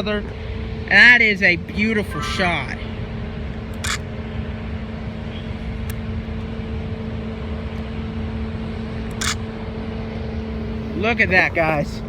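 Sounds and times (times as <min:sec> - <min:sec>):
mechanical hum and rumble: 0:00.0 - 0:12.0.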